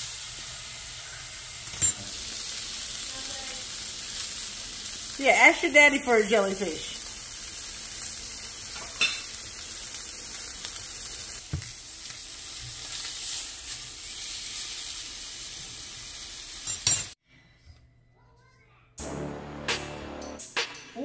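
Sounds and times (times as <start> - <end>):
steak sizzling in frying pan: 0.0 - 17.2.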